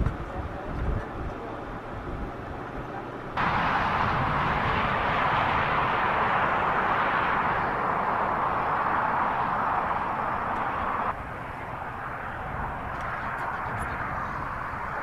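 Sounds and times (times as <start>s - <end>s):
wildfire burning in wind: 0.0s - 15.0s.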